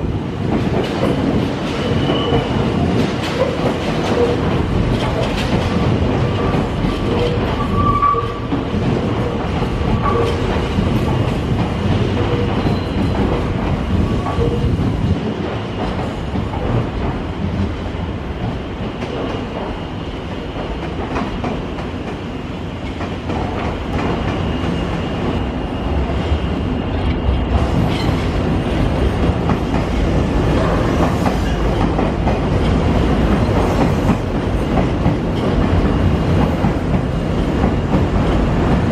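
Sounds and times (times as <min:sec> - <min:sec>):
electric train wheels on rails: 0:00.0 - 0:38.9.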